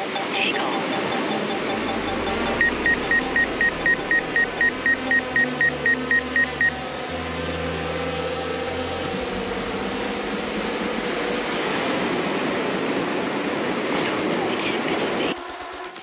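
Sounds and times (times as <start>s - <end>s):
rapid electronic beeping: 0.0s - 6.7s, 9.1s - 16.0s.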